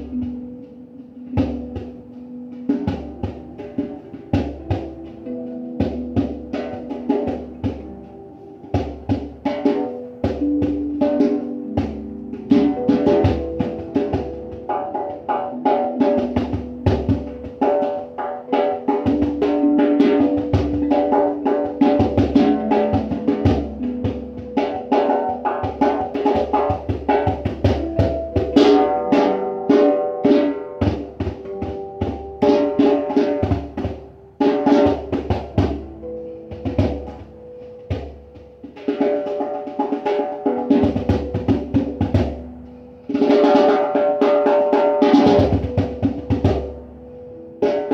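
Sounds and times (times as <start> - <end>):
hand drum rhythm: 0.0 - 47.9
held melodic instrument notes: 0.0 - 47.9.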